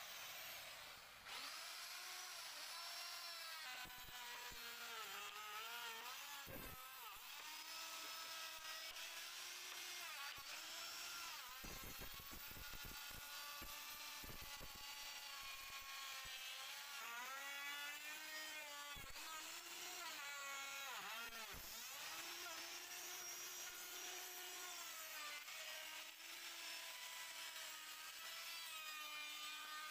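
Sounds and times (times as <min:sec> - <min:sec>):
electric router motor whine: 0:00.0 - 0:29.9
router bit crackling in wood: 0:00.0 - 0:29.9.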